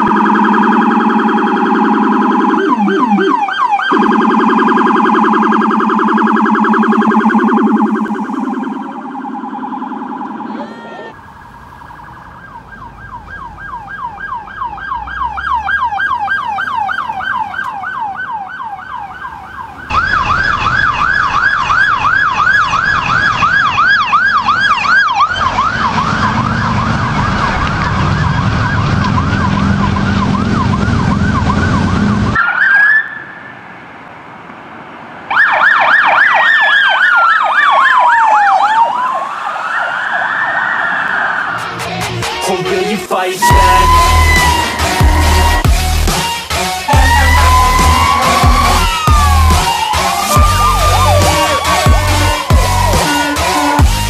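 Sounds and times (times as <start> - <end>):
police siren yelping: 0.0 - 33.5, 35.3 - 54.0
siren wailing: 0.0 - 33.6, 35.3 - 54.0.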